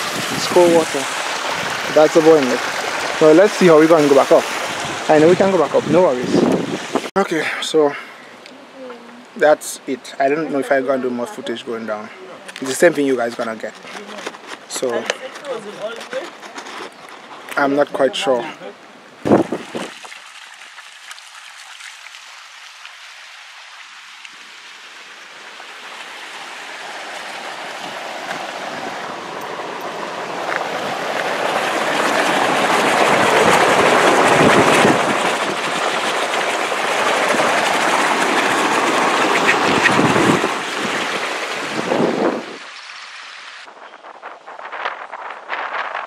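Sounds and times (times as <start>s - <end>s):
steam and boiling water rushing: 0.0s - 8.2s, 9.5s - 18.3s, 19.2s - 46.0s.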